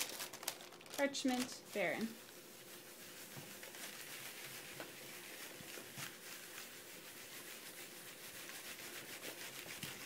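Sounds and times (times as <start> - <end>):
faint rubbing hiss on paper: 1.0 - 10.0.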